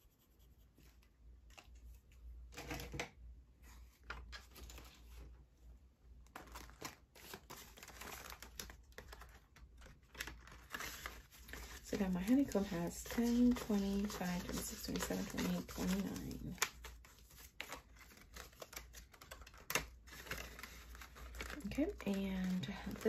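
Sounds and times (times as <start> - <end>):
binder pages flipping and rustling: 0.8 - 3.0, 3.6 - 5.5, 6.2 - 23.0.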